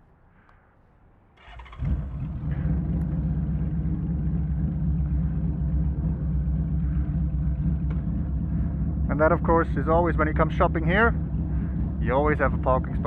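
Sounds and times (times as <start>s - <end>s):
motorcycle engine idling: 1.4s - 13.0s.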